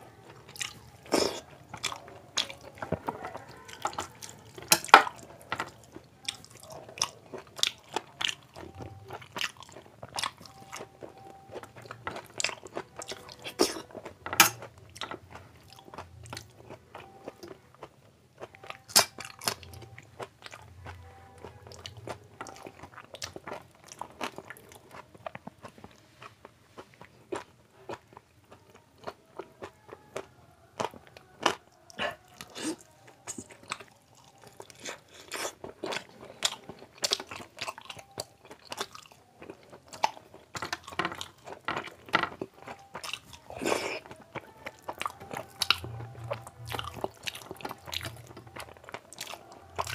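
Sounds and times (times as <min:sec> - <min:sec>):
wet chewing and mouth noises: 0:00.0 - 0:49.9.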